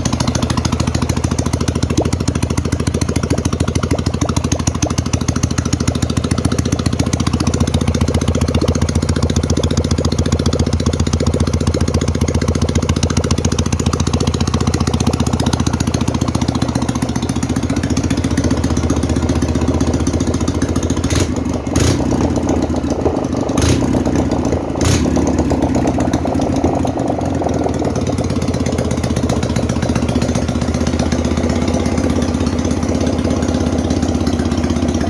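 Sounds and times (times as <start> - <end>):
engine pops: 0.0 - 35.0
open motorcycle engine idling: 0.0 - 35.0.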